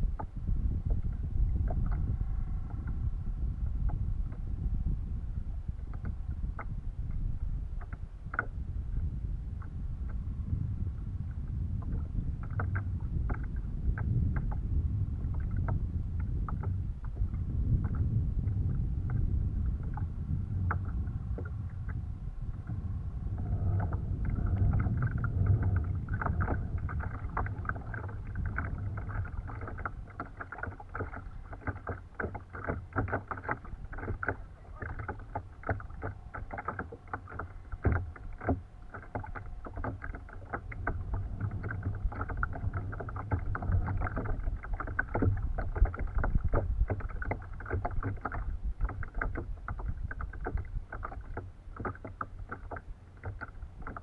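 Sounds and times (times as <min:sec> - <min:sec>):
water splashing against hull: 0:00.0 - 0:54.0
wind rumble on microphone: 0:00.0 - 0:54.0.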